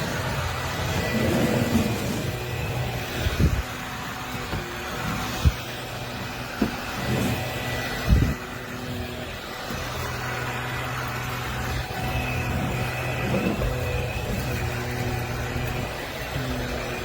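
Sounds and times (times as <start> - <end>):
upright vacuum cleaner humming: 0.0 - 17.0.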